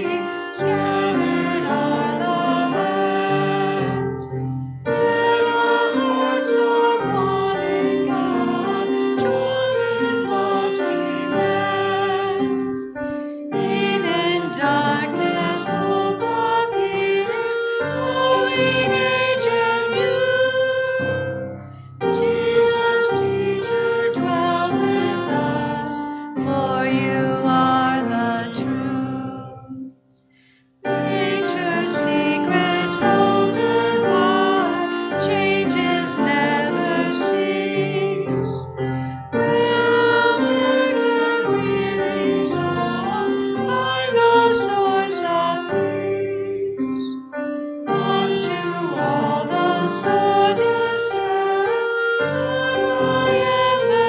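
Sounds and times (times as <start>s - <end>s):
person singing with vibrato: 0.0s - 29.9s, 30.8s - 54.0s
instrumental accompaniment: 0.0s - 54.0s.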